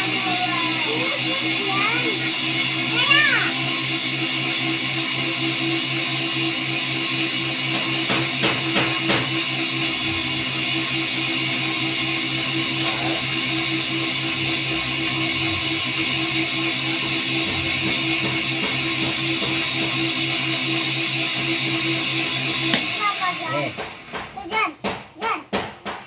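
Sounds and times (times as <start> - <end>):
steady hum: 0.0 - 24.2.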